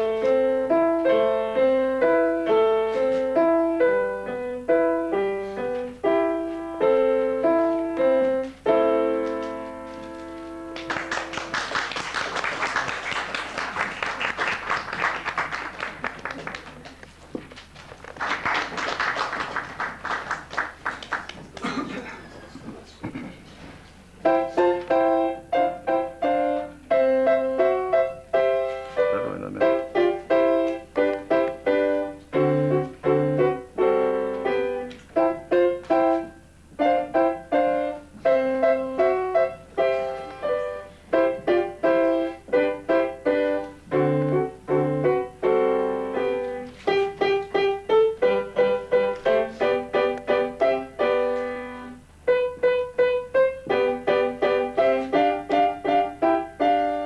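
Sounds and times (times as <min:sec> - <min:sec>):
simple piano piece: 0:00.0 - 0:17.8, 0:23.8 - 0:57.0.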